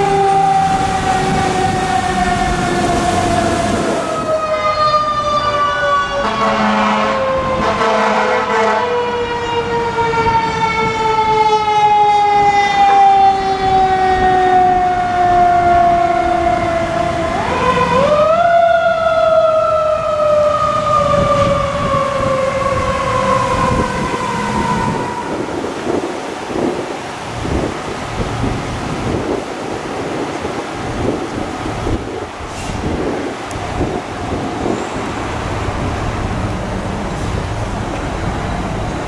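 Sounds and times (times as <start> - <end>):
street traffic: 0.0 - 39.0.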